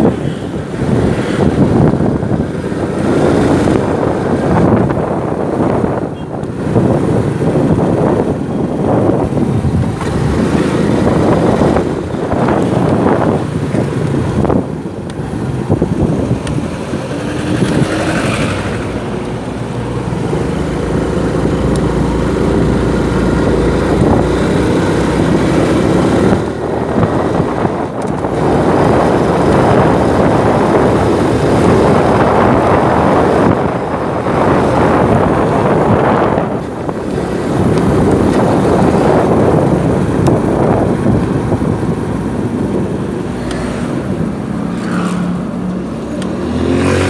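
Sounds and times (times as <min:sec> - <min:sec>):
wind on microphone: 0:00.0 - 0:47.0.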